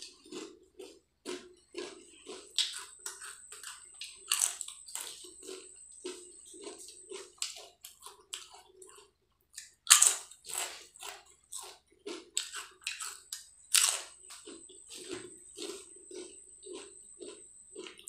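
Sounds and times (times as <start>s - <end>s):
potato chips crunching: 0.0s - 18.0s.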